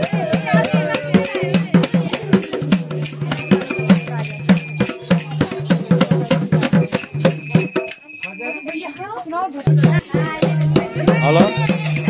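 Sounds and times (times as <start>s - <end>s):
drum beating quick rhythm: 0.0s - 12.0s
jingling rattling percussion: 0.0s - 12.0s.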